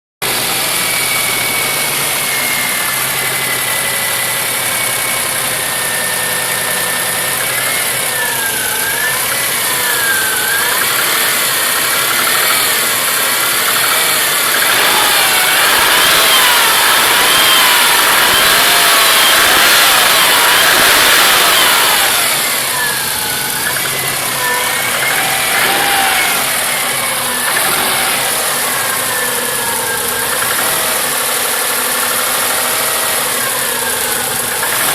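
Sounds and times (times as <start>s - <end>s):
car engine running: 0.2s - 34.9s
engine knocking: 0.2s - 34.9s.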